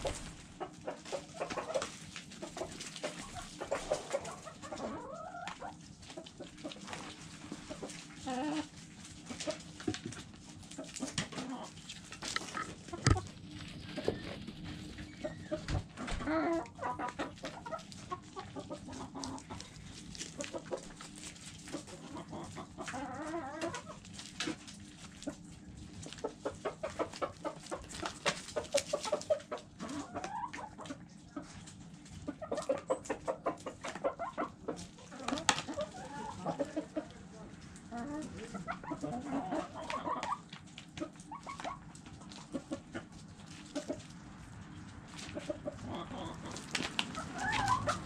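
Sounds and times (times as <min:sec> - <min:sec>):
hens clucking: 0:00.0 - 0:48.0.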